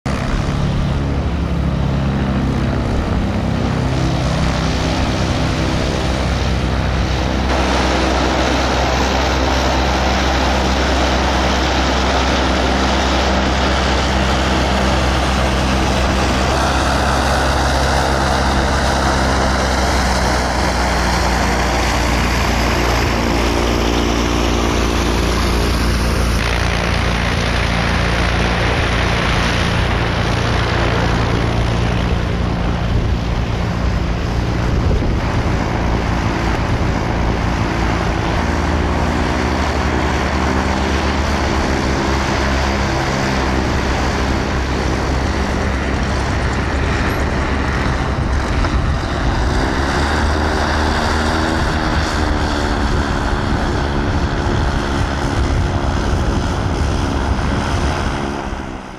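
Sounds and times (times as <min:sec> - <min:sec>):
engine droning: 0:00.0 - 0:58.9
propeller noise: 0:00.0 - 0:58.9.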